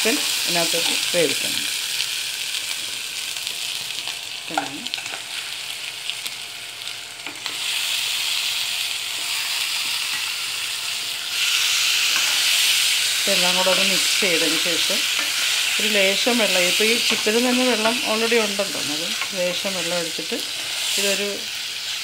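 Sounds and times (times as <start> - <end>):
hot oil sizzling in a pan: 0.0 - 22.0.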